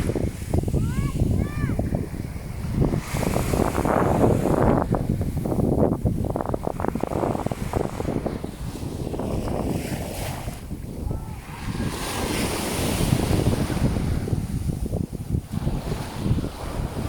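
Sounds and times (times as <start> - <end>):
sea waves on shore: 0.0 - 17.0
wind buffeting microphone: 0.0 - 17.0.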